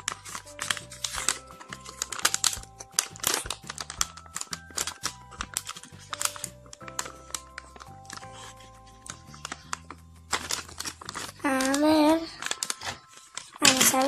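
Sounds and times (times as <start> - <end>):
background music: 0.0 - 14.0
foil packet crinkling: 0.0 - 14.0.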